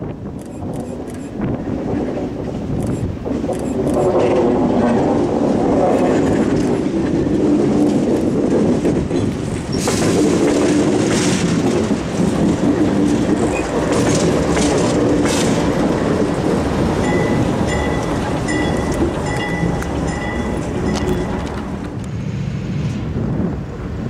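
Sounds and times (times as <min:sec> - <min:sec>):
locomotive engine rumbling: 0:00.0 - 0:24.0
wheels clicking over rail joints: 0:00.3 - 0:22.2.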